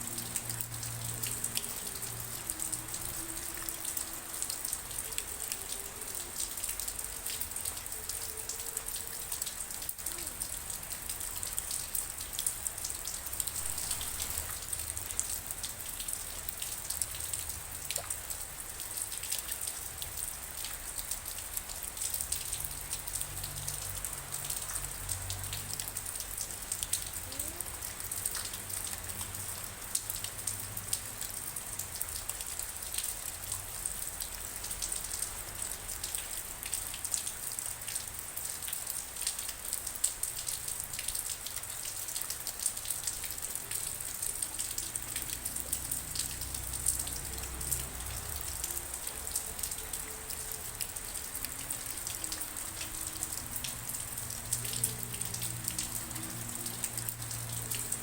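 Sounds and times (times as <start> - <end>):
raindrops ticking on a surface: 0.0 - 58.0
steady rain: 0.0 - 58.0.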